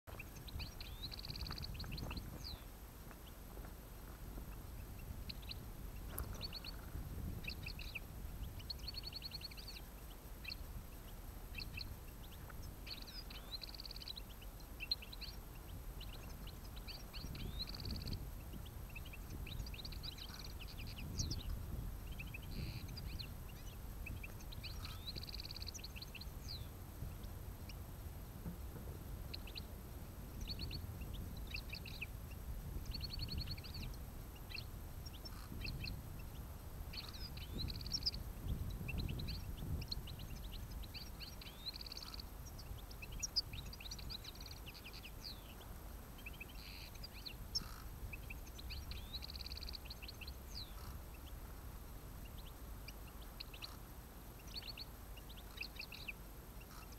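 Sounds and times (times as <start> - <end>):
finches twittering: 0.1 - 3.4, 4.4 - 27.8, 29.2 - 51.4
steady low rumble: 0.1 - 54.5.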